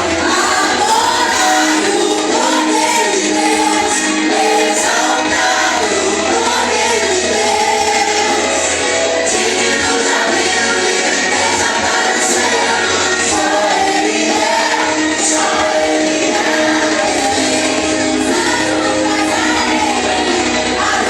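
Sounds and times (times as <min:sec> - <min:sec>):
group singing worship song: 0:00.0 - 0:21.0.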